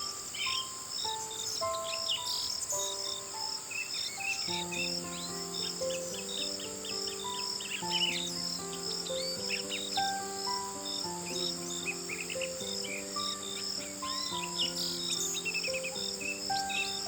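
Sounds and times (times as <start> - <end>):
bird chirps: 0.0 - 17.0
calm music with long notes: 0.0 - 17.0
crickets trilling: 0.0 - 17.0.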